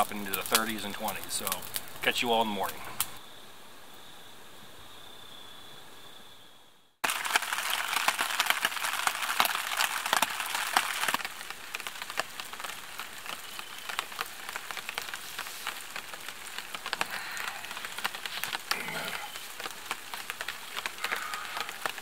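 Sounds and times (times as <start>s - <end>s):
rain pattering on a plastic tarp: 0.0s - 3.2s, 7.0s - 22.0s.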